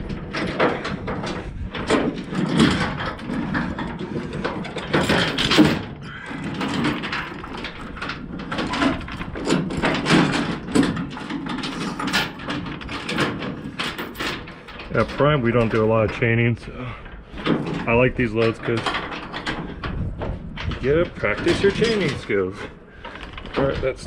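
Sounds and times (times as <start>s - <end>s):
metal chains clanking: 0.0s - 16.4s, 20.6s - 24.0s.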